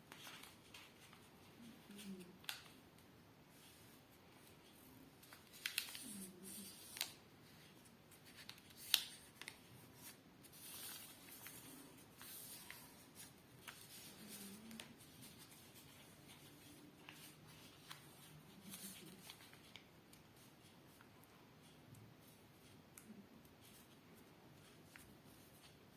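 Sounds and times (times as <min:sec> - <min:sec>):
paper folding and crinkling: 0:00.0 - 0:02.8, 0:03.5 - 0:25.9.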